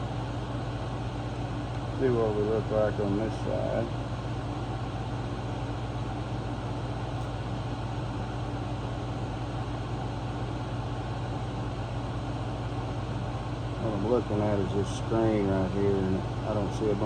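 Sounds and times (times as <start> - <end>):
air conditioner and fan hum: 0.0 - 17.0.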